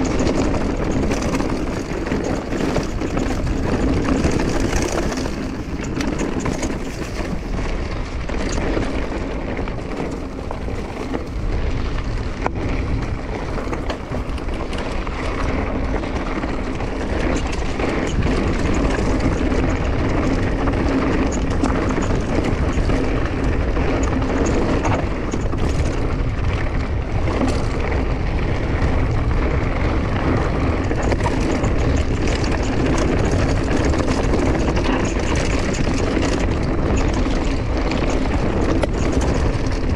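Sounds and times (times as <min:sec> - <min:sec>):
bike rattling over rough ground: 0:00.0 - 0:39.9
bike tyre noise on dirt: 0:00.0 - 0:39.9
wind buffeting microphone: 0:00.0 - 0:39.9.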